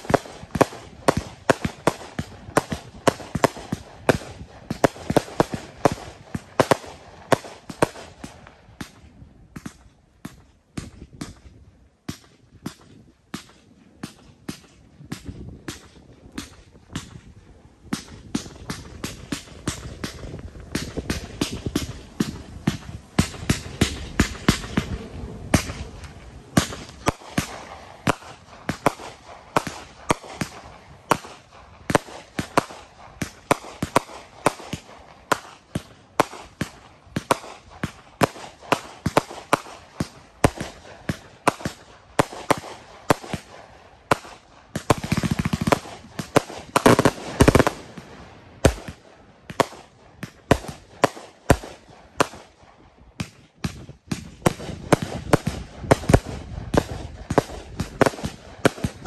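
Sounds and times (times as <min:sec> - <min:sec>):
firework launch pops and bursts: 0:00.0 - 0:59.0.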